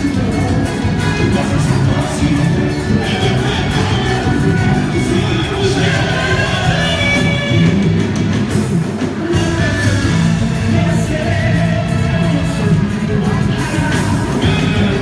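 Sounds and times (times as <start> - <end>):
loud amplified song with beat: 0.0 - 15.0.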